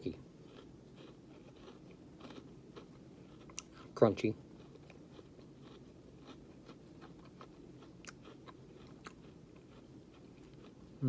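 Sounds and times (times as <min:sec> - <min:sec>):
person chewing crunchy food: 0:00.0 - 0:11.0.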